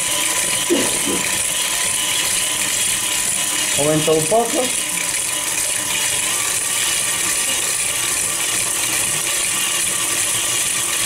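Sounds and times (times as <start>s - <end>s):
stand mixer whisk beating: 0.0s - 11.0s.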